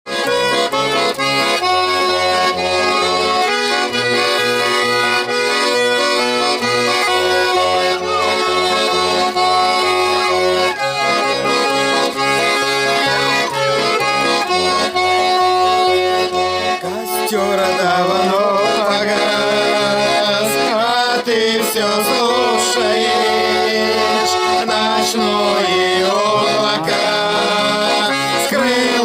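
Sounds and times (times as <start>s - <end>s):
button accordion playing chords: 0.1s - 29.0s.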